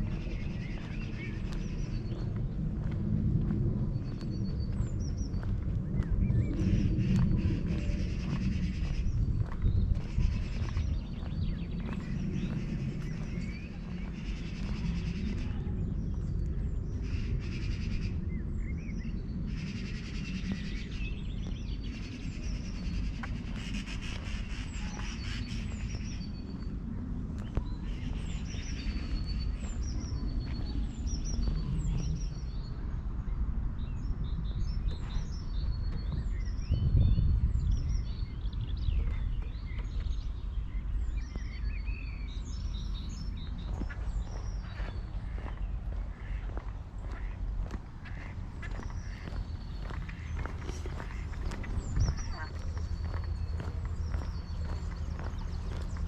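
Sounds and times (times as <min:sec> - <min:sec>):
small birds chirping: 0:00.0 - 0:56.0
steady low rumble: 0:00.0 - 0:56.0.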